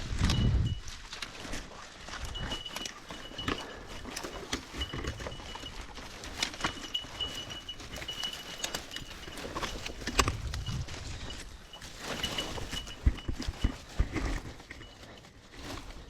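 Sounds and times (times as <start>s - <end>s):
footsteps through brush: 0.0s - 16.0s.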